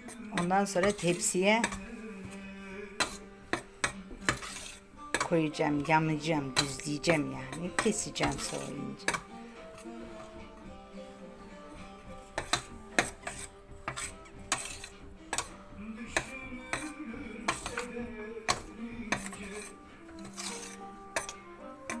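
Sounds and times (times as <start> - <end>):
background music: 0.0 - 22.0
spoon scraping a pan: 0.0 - 22.0.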